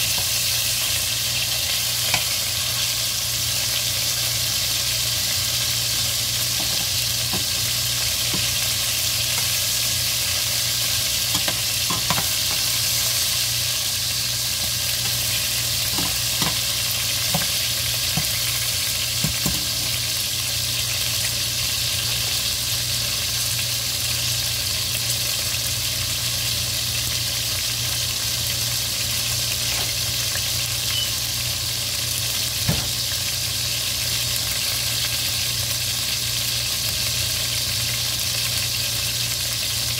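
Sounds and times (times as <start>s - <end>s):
chicken sizzling in oil: 0.0s - 39.9s.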